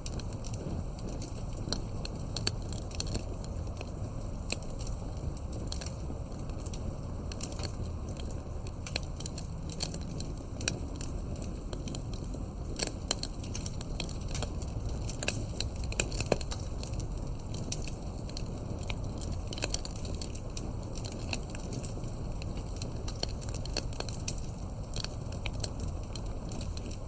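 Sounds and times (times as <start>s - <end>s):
burning wood crackling and popping: 0.0s - 27.0s
campfire flames rumbling: 0.0s - 27.0s.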